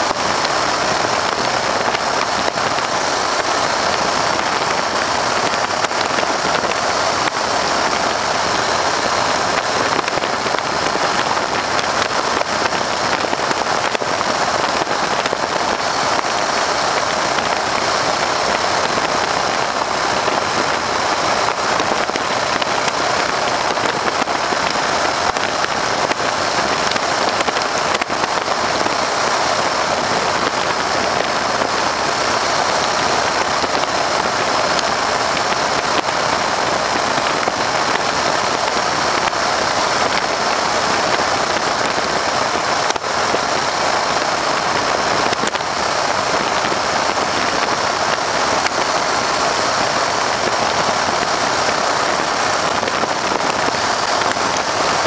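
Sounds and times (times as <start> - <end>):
radial engine drone: 0.0 - 55.0.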